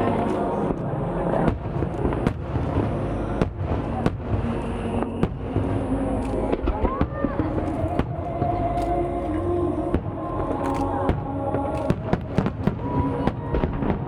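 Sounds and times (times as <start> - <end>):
firework shells banging: 0.0 - 14.0
low background rumble: 0.0 - 14.0.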